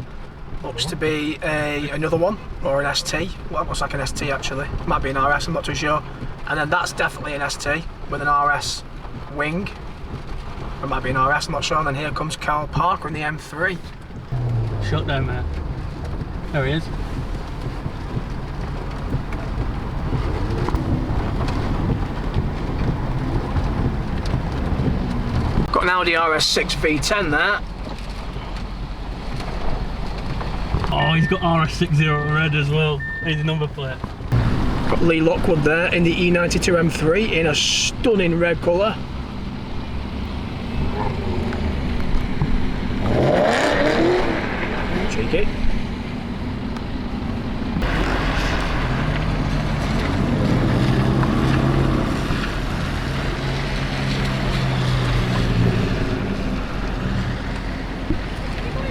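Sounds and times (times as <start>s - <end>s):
car engine rumbling: 0.0s - 58.9s
steady rain falling: 0.0s - 58.9s.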